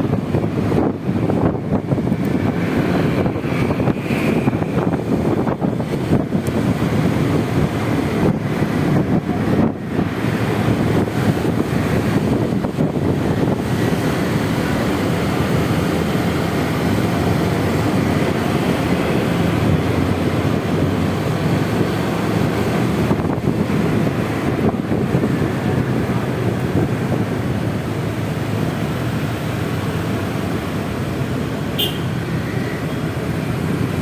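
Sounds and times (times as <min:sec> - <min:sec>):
wind buffeting microphone: 0:00.0 - 0:31.2
city traffic: 0:00.0 - 0:34.0.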